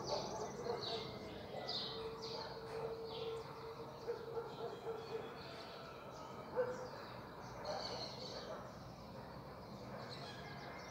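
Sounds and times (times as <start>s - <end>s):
small birds chirping: 0.0s - 5.8s, 6.6s - 10.9s.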